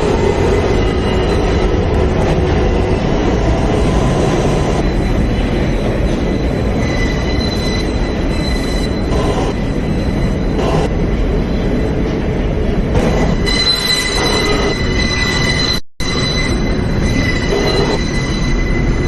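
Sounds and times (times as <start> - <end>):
high wheel squeal: 0.0 - 11.0, 13.0 - 19.0
train wheels rumbling on rails: 0.0 - 19.0.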